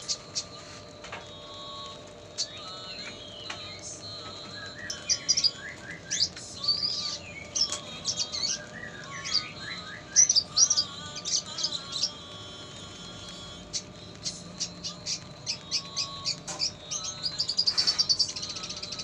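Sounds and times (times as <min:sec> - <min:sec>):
bird singing chirps and whistles: 0:01.6 - 0:12.2, 0:13.7 - 0:19.0.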